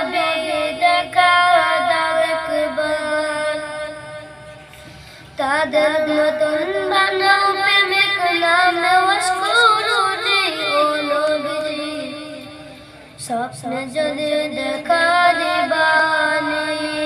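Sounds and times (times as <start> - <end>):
boy singing: 0.0 - 4.3, 5.4 - 17.0.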